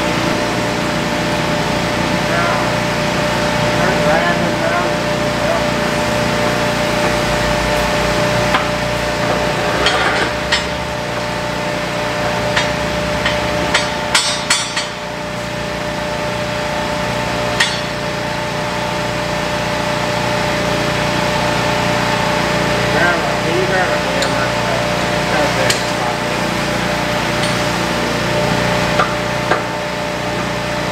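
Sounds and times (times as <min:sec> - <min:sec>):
steady machine hum: 0:00.0 - 0:30.9.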